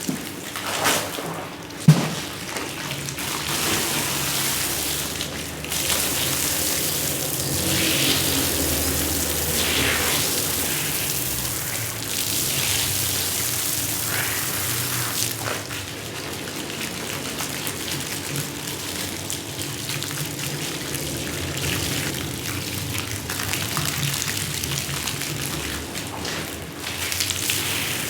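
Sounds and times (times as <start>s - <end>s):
water spraying onto rug: 2.2s - 28.0s.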